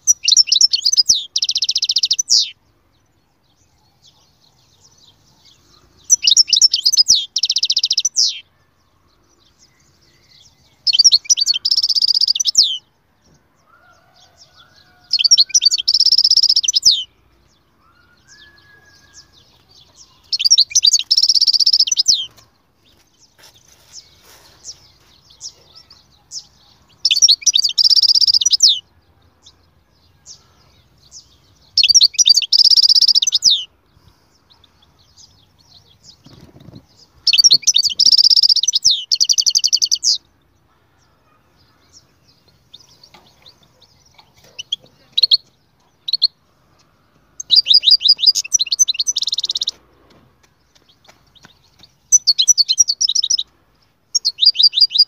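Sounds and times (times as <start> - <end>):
goldfinch twittering song: 0.0 - 8.4, 9.2 - 12.9, 14.0 - 29.7, 30.3 - 33.7, 34.4 - 40.3, 41.9 - 49.9, 50.6 - 53.5, 54.1 - 55.0.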